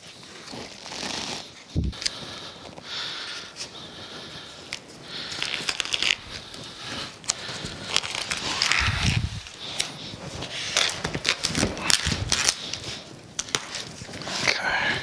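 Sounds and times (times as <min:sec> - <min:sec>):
cardboard crackling and clicking: 0:00.0 - 0:02.8, 0:04.5 - 0:14.6
packing tape pulled off roll: 0:00.0 - 0:03.7, 0:04.6 - 0:14.6.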